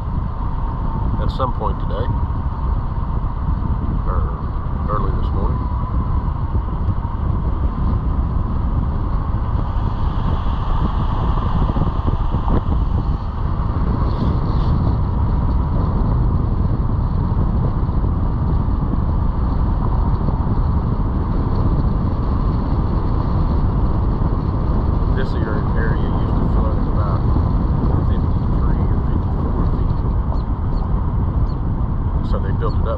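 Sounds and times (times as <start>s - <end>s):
car engine and road noise: 0.0s - 32.9s.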